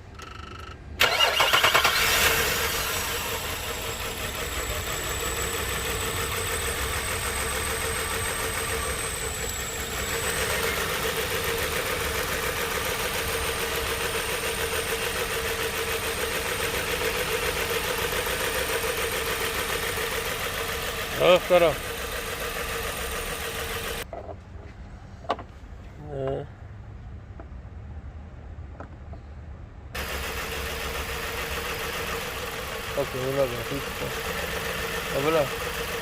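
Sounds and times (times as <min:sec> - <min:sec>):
car engine starting and idling: 0:00.0 - 0:24.1, 0:30.0 - 0:36.0.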